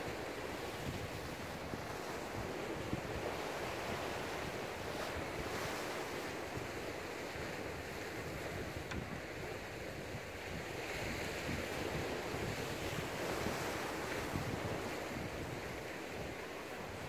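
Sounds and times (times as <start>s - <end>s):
sea surf on rocky shore: 0.0s - 17.0s
wind buffeting microphone: 0.0s - 17.0s.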